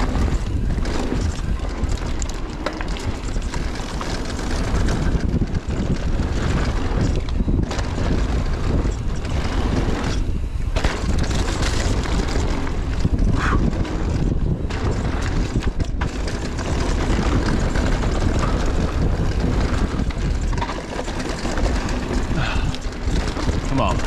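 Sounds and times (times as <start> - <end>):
tyres rumbling over dirt trail: 0.0 - 24.0
wind buffeting microphone: 0.0 - 24.0.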